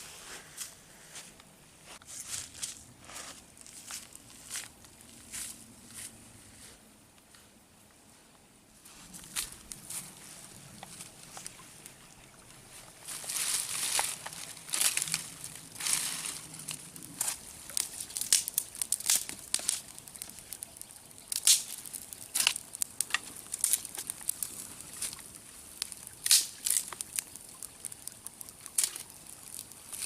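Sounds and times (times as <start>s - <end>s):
crinkling crackling rustles: 0.0s - 7.5s, 8.8s - 30.0s.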